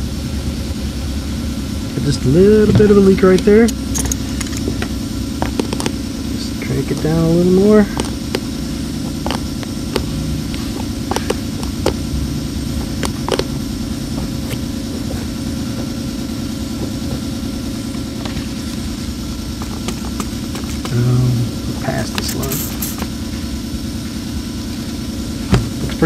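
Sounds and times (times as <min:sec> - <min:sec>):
air compressor motor drone: 0:00.0 - 0:26.0.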